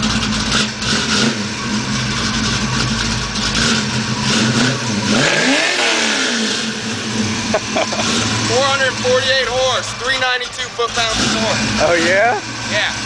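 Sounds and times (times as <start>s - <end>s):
car engine idling: 0.0s - 13.0s
car engine revving: 0.0s - 13.0s.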